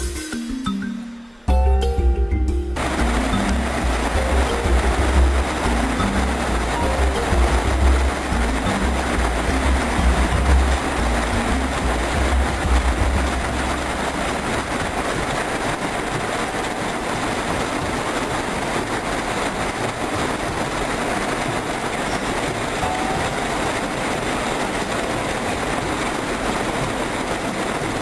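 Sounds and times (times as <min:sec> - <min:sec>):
power looms clattering: 0:02.8 - 0:28.0.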